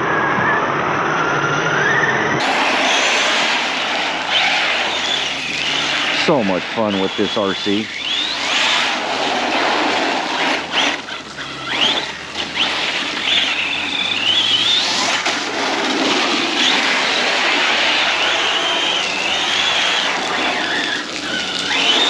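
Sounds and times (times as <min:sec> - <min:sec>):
electric motor whining: 0:00.0 - 0:22.0
tyres hissing through water: 0:02.4 - 0:22.0.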